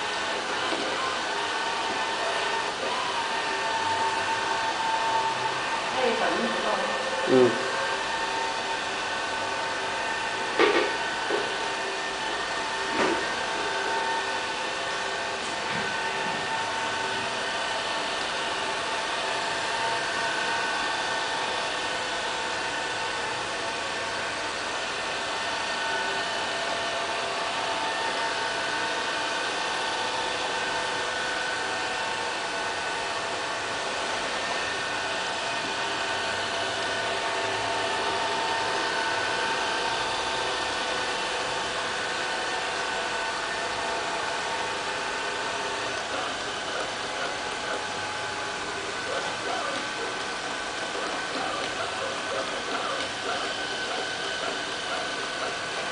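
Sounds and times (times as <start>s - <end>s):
robotic vacuum cleaner running: 0.0s - 55.9s.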